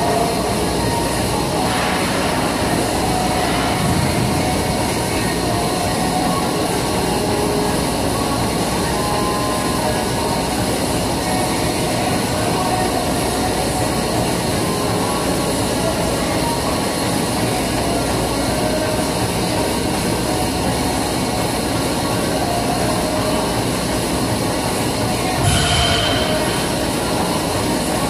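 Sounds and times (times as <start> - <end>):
treadmill rolling rumble: 0.0 - 28.0.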